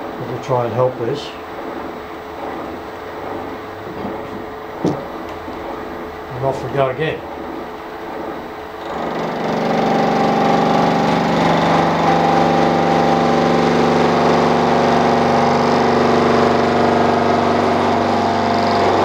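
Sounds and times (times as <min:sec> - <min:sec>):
milling machine cutting steel: 0:00.0 - 0:19.0.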